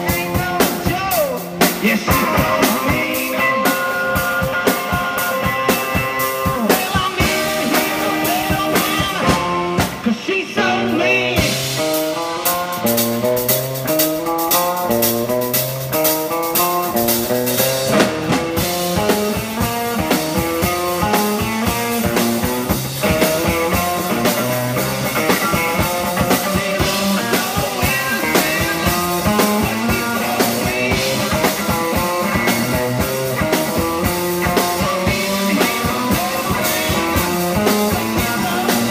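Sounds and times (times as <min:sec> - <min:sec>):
drum kit beat: 0:00.0 - 0:38.9
electric guitar pattern: 0:00.0 - 0:38.9.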